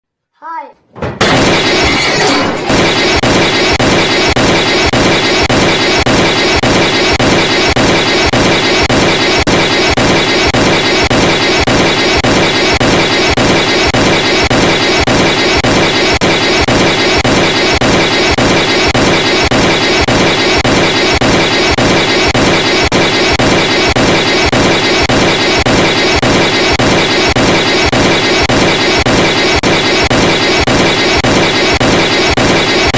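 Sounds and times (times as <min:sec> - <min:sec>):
pulsing alarm tone: 0:01.4 - 0:32.9.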